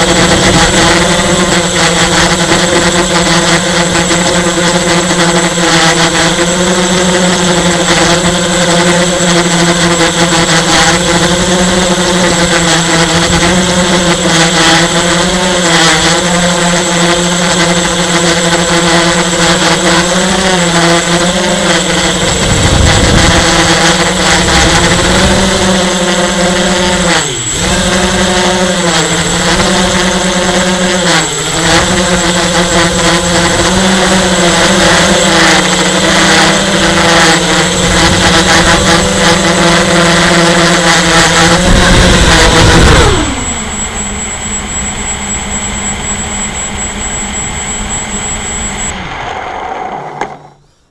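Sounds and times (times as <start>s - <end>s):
model helicopter motor whine: 0.0s - 50.9s.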